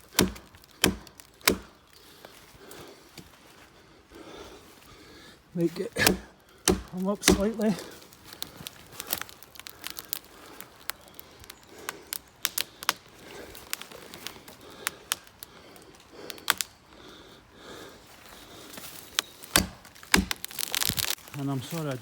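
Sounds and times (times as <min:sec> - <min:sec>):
dry twigs crackling and snapping: 0:00.0 - 0:03.7, 0:05.6 - 0:17.2, 0:18.0 - 0:22.0.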